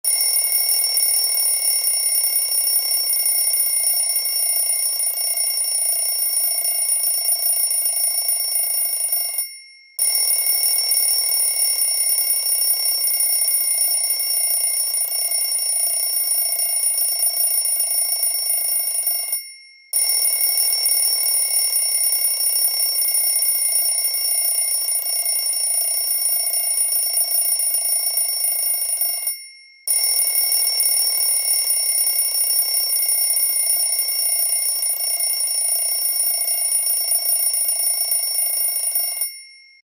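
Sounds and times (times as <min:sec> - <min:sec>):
alarm clock bell ringing: 0:00.1 - 0:39.8.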